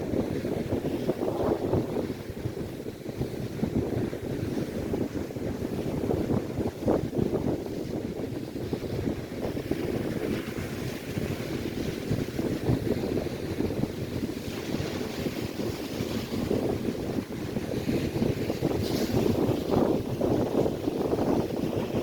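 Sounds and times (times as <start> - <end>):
waves breaking on shore: 0.0 - 22.0
wind buffeting microphone: 0.0 - 22.0.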